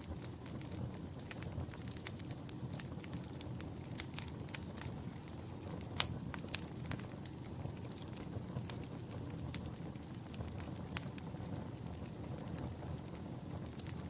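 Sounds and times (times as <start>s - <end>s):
sharp pops and snaps: 0.0s - 14.0s
wood fire crackling: 0.0s - 14.0s.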